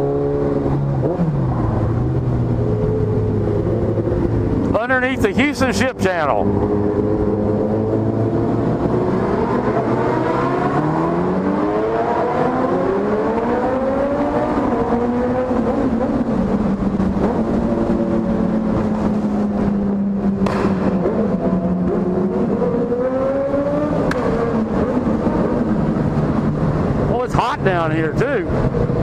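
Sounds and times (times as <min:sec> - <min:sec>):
motorcycle engines revving in tunnel: 0:00.0 - 0:04.8, 0:06.4 - 0:27.2, 0:28.4 - 0:29.0.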